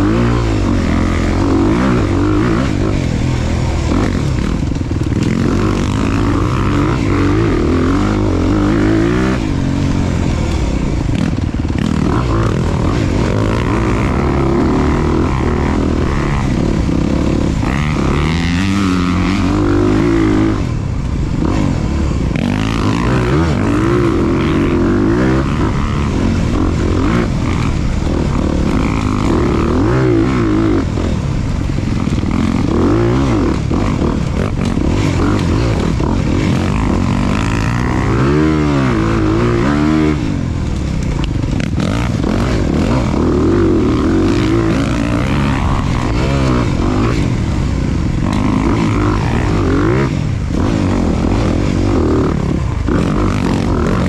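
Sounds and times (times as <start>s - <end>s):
off-road motorcycle engine revving: 0.0s - 54.0s.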